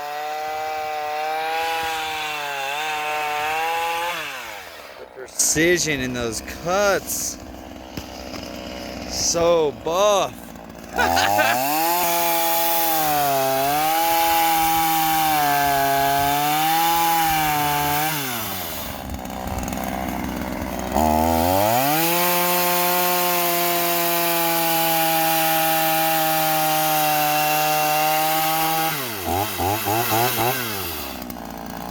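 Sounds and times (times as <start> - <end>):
chainsaw cutting wood: 0.0 - 31.9.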